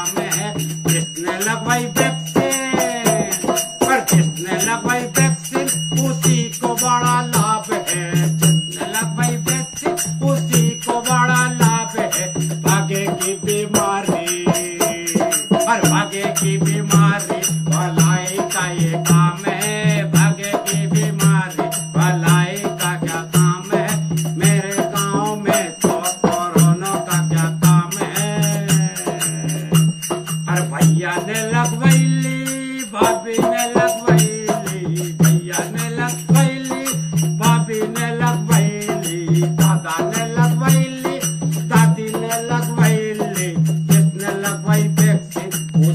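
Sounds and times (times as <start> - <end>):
man singing: 0.0 - 45.9
rhythmic accompaniment: 0.0 - 45.9.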